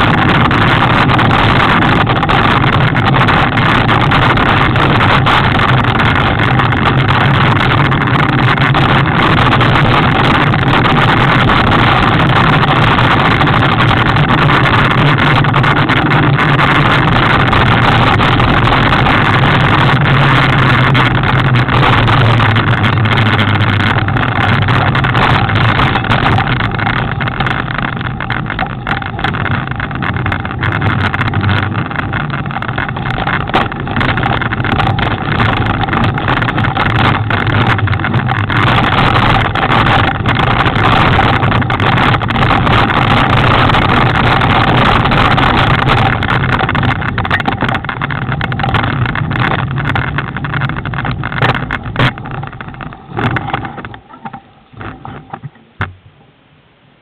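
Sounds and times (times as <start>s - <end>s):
bike knocking over bumps: 0.0s - 56.2s
mountain bike rolling on rough trail: 0.0s - 56.2s.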